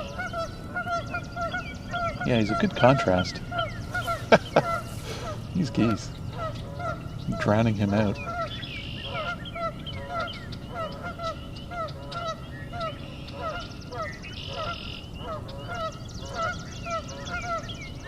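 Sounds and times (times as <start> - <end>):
bird trilling: 0.0 - 18.0
geese honking: 0.0 - 18.0.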